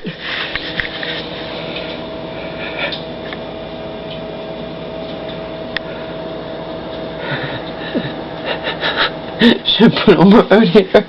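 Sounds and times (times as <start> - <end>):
mechanical hum with tone: 0.0 - 11.0.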